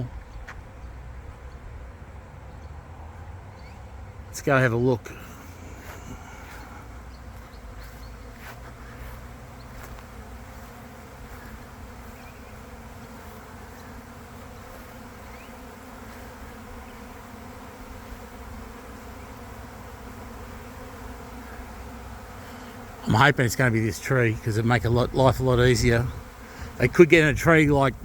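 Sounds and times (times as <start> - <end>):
bees buzzing: 1.2 - 28.0.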